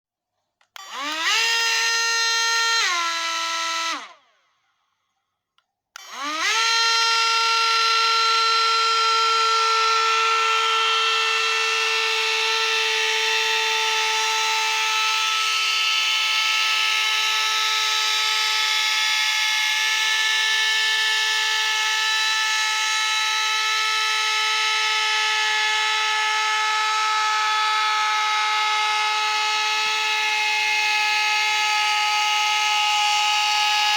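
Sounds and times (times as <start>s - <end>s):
small electric motor whining: 0.7s - 4.8s, 6.0s - 33.9s.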